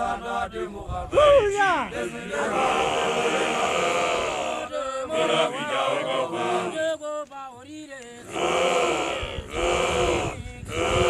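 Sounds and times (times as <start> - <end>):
group of men chanting: 0.0 - 11.0.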